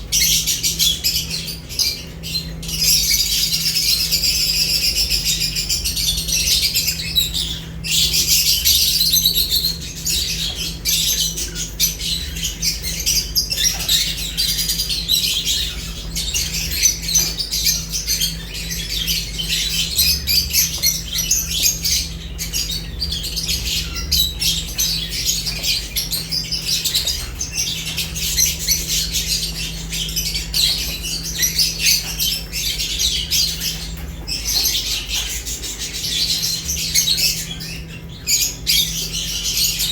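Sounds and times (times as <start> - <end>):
lovebirds chattering and chirping: 0.0 - 39.9.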